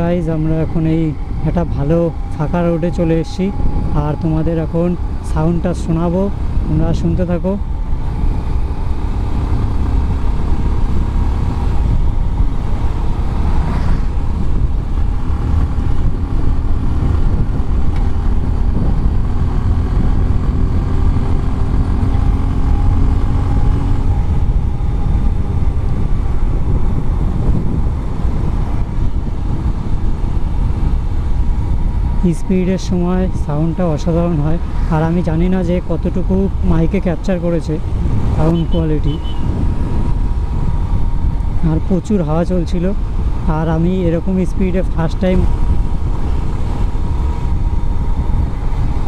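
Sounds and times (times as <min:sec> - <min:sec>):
motorcycle engine and exhaust: 0:00.0 - 0:49.0
wind rumble on microphone: 0:00.0 - 0:49.0.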